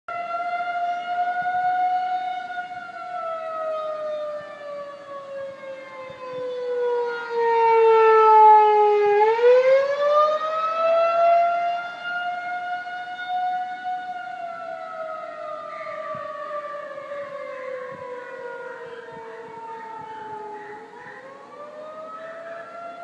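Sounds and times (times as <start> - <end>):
warning siren wailing: 0.1 - 23.0.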